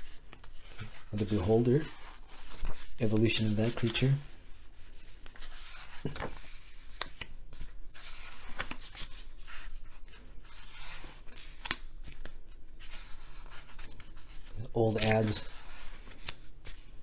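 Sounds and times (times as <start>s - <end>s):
book pages rustling: 0.0s - 17.0s.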